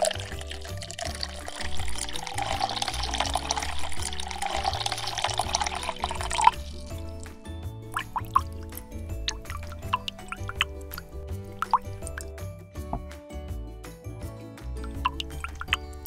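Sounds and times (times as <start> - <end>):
faucet water splashing: 0.0 - 12.4, 14.8 - 16.0
background music: 0.0 - 16.0.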